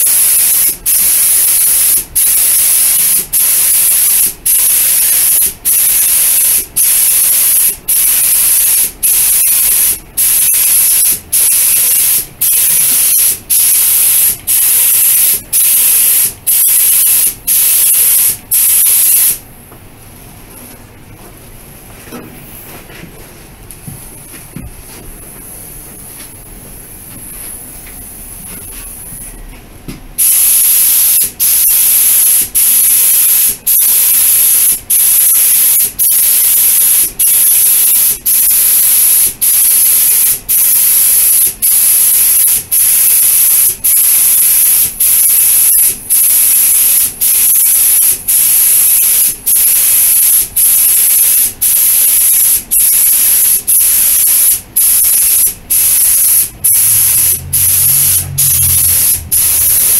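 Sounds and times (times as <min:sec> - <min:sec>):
paint spray gun hissing: 0:00.0 - 0:19.4, 0:30.2 - 0:59.9.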